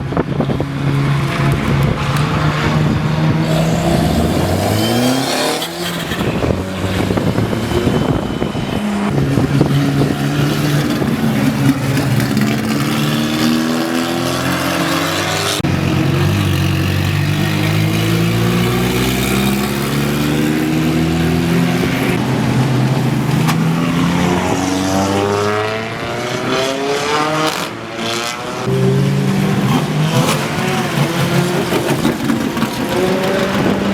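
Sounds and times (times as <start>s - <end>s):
car engine accelerating hard: 0.1s - 33.9s.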